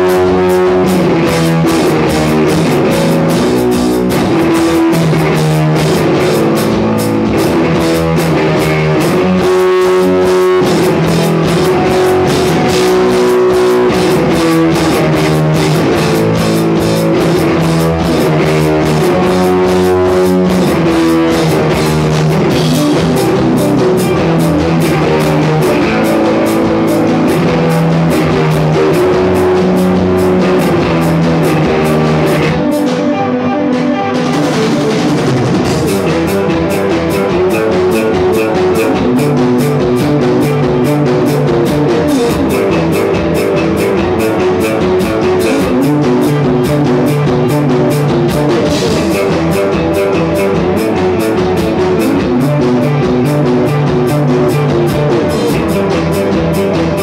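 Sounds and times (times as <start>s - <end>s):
drum kit playing: 0.0s - 57.0s
rock guitar: 0.0s - 57.0s.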